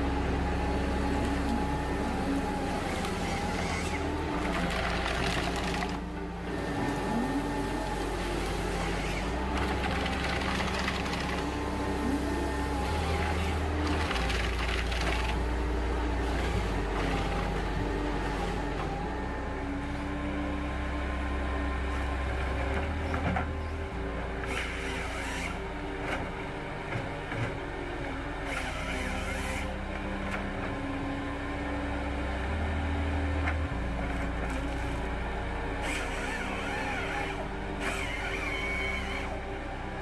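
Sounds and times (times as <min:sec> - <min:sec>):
heavy machinery running: 0:00.0 - 0:40.0.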